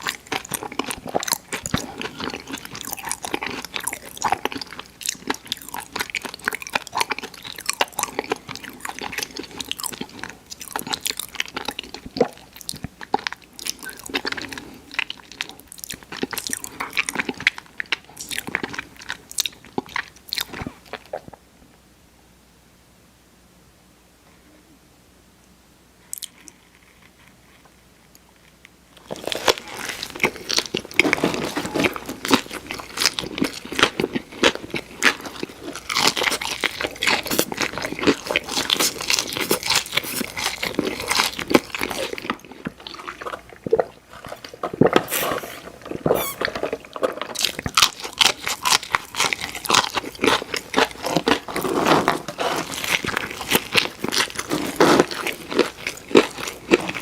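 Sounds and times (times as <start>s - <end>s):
crunching crispy fried food: 0.0s - 21.2s, 28.2s - 57.0s.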